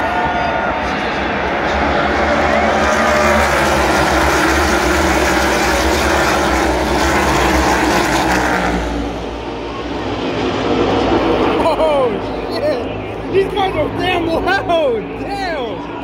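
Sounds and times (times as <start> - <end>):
race cars accelerating past: 0.0 - 14.0.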